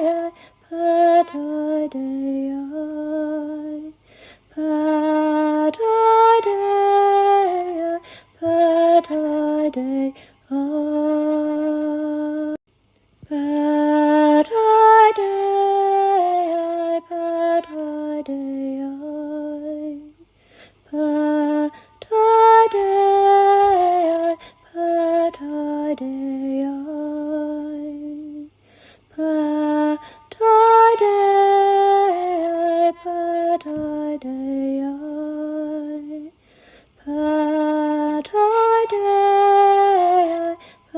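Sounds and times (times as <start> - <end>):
woman singing unaccompanied: 0.0 - 12.6, 13.2 - 40.9.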